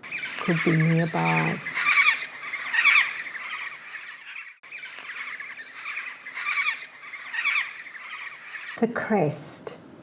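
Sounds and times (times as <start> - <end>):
cockatoo screechy cries: 0.0 - 8.8.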